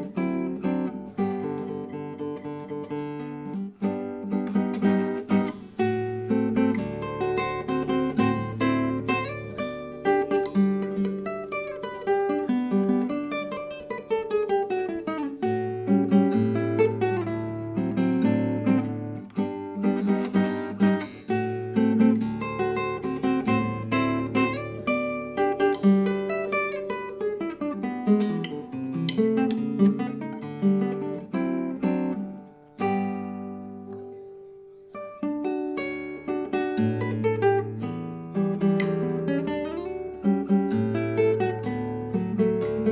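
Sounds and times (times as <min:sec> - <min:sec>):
acoustic guitar music: 0:00.0 - 0:42.9.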